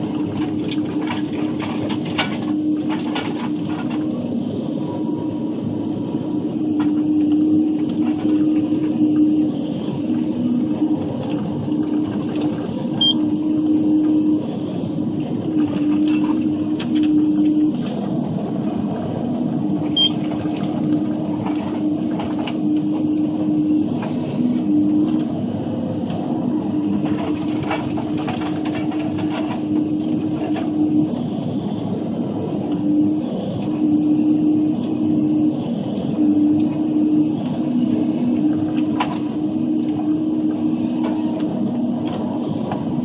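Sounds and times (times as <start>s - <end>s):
engine and hydraulic hum: 0.0s - 43.0s.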